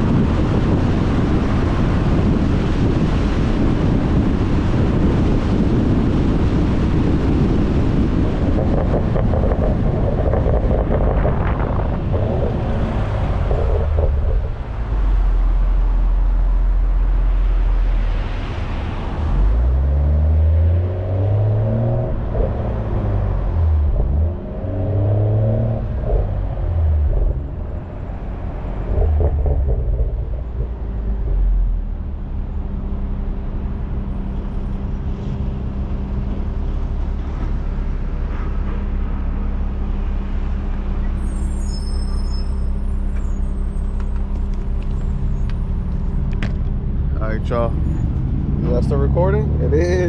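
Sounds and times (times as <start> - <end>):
car accelerating: 0.0 - 41.3, 42.5 - 50.0
wind noise on microphone: 0.0 - 48.7
car exhaust drone: 0.0 - 50.0
road noise: 0.0 - 50.0.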